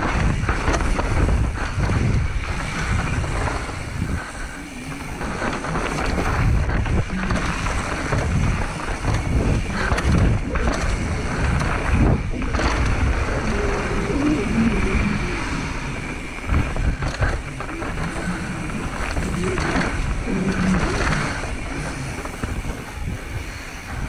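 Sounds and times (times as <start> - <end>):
bike rattling over bumps: 0.0 - 24.0
bike tyres on dirt trail: 0.0 - 24.0
wind buffeting microphone: 0.0 - 24.0.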